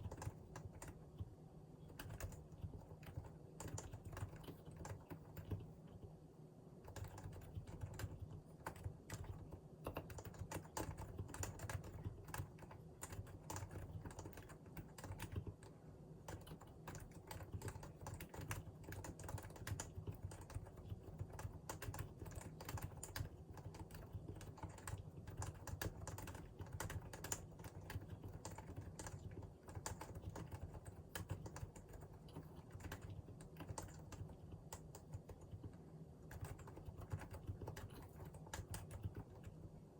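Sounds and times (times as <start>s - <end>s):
keyboard typing: 0.0s - 6.1s, 6.9s - 39.6s.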